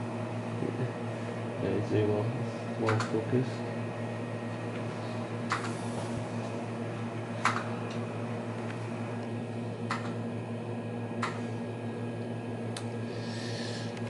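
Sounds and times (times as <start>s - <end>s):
electrical hum of computer equipment: 0.0s - 14.0s.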